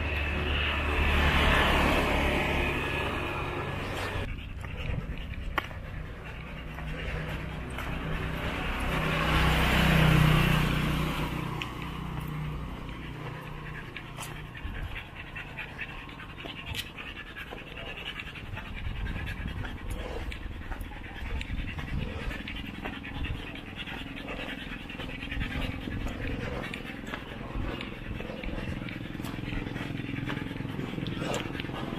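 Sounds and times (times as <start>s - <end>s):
dog panting: 0.0s - 31.9s
engine humming: 0.0s - 31.9s.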